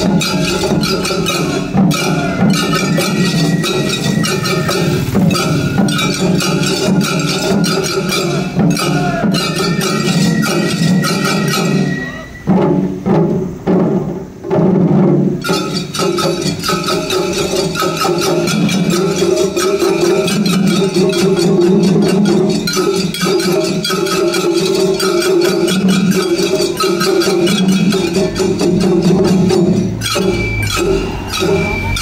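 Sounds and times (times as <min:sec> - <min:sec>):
taiko drums: 0:00.0 - 0:32.0.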